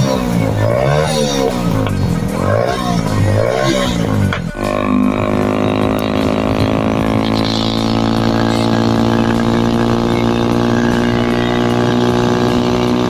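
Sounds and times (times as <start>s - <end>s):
car engine droning through exhaust: 0.0s - 13.0s.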